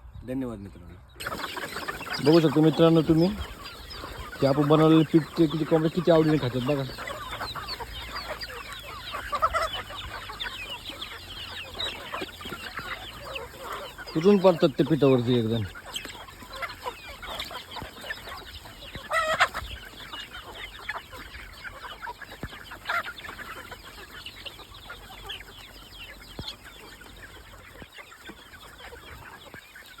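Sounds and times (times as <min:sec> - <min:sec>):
chickens clucking and chirping: 0:00.0 - 0:30.0.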